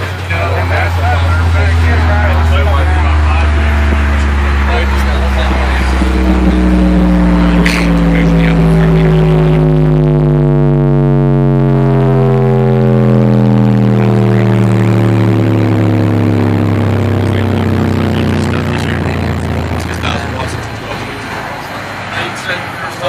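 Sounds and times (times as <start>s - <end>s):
subwoofer bass tone sweep: 0.0s - 23.0s.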